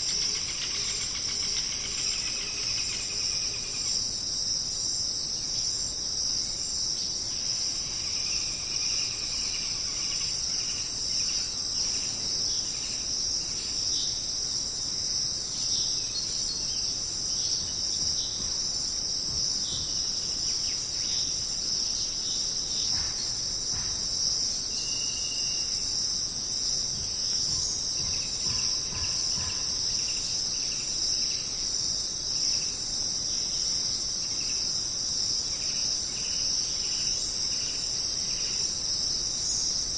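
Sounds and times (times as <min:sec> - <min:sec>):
chorus of crickets and insects: 0:00.0 - 0:39.9.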